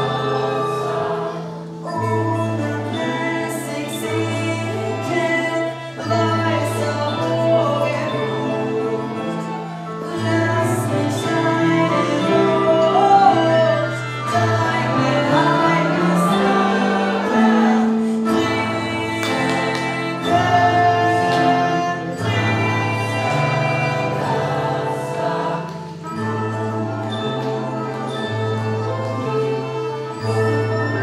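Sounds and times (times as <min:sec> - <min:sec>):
instrumental accompaniment: 0:00.0 - 0:31.0.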